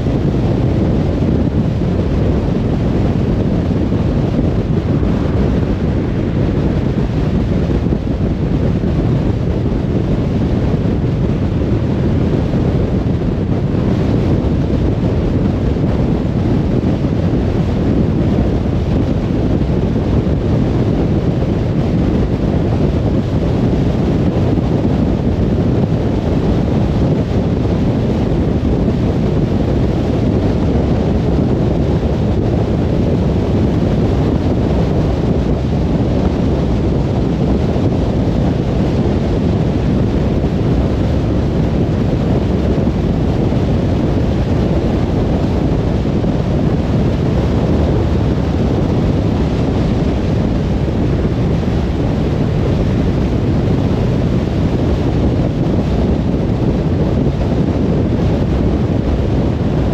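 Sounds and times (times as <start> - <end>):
car tyre and wind noise: 0.0 - 59.9.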